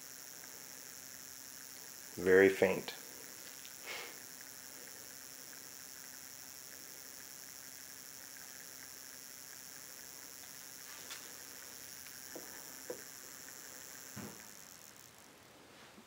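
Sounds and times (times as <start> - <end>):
gearmotor running: 0.0 - 15.4.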